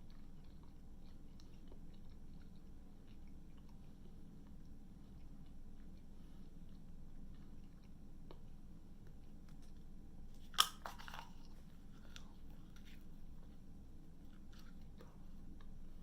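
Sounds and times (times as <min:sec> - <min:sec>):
person chewing crunchy food: 0:00.0 - 0:15.8.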